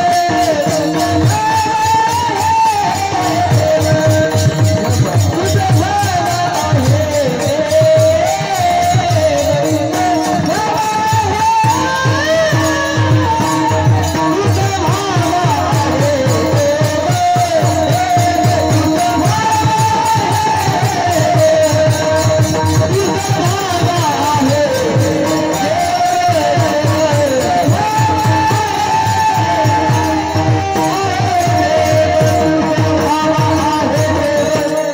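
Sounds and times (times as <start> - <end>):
fast drum rhythm: 0.0 - 34.9
hand cymbals: 0.0 - 34.9.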